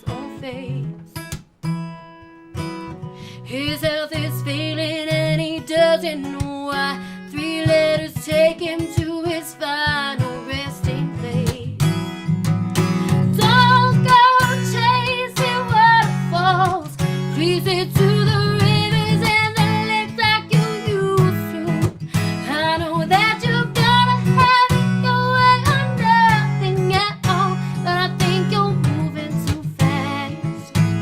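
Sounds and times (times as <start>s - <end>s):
woman singing: 0.0s - 1.2s, 3.3s - 12.0s, 13.2s - 31.0s
strummed acoustic guitar: 0.0s - 31.0s.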